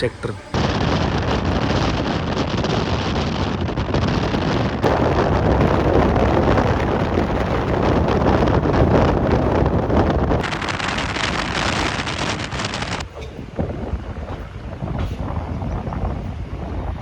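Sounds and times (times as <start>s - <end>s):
train running noise: 0.0s - 17.0s
wind rushing on microphone: 0.0s - 17.0s.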